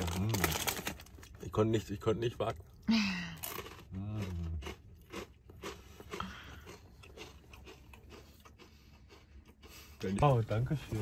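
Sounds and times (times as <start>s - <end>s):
chips crunching and chewing: 0.0s - 9.7s.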